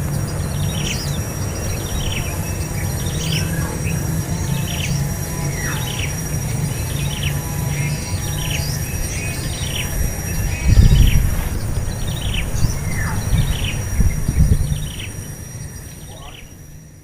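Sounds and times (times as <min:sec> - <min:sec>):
low rumble: 0:00.0 - 0:16.0
high insect drone: 0:00.0 - 0:17.0.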